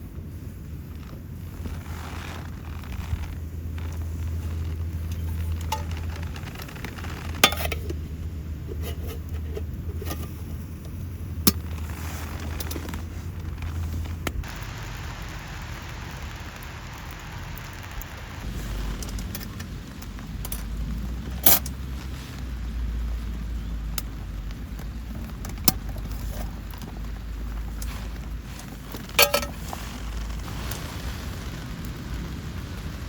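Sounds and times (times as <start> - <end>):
food sizzling over fire: 1.2 - 33.0.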